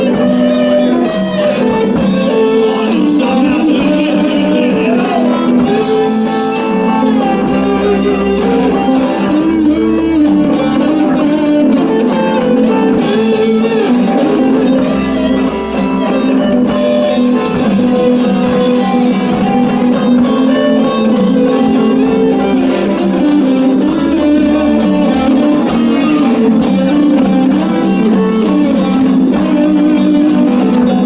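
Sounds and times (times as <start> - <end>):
guitar music over steady beat: 0.0 - 31.0.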